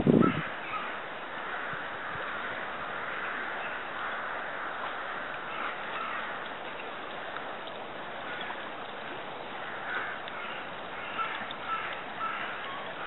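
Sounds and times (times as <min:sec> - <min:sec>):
flowing river water: 0:00.0 - 0:13.0
bird calls: 0:00.2 - 0:07.2, 0:08.1 - 0:13.0.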